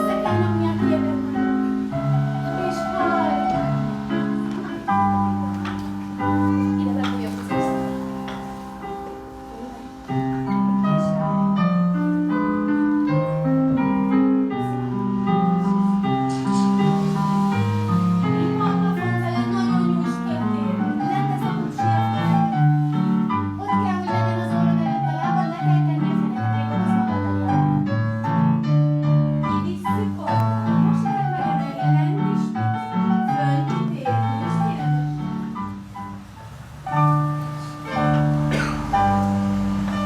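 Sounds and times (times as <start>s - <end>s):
piano music: 0.0s - 40.0s.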